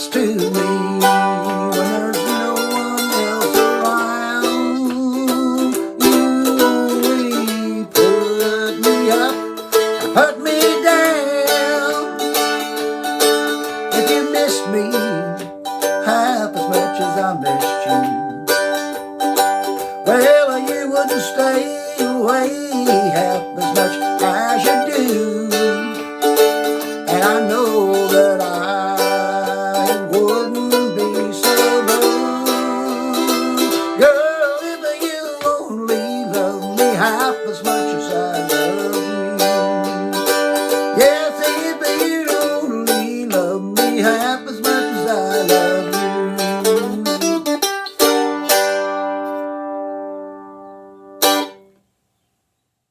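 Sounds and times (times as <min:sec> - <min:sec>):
mandolin rapid picking: 0:00.0 - 0:51.6.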